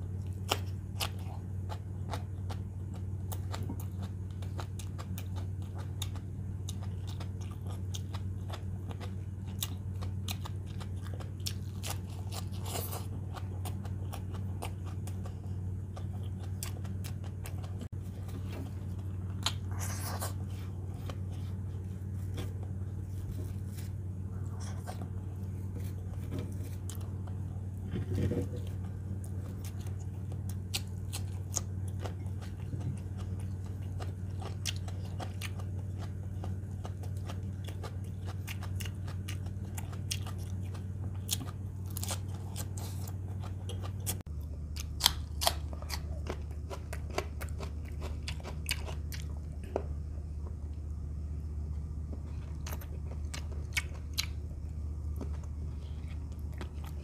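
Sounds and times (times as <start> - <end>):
low hum: 0.0 - 57.0
person chewing food: 0.0 - 57.0.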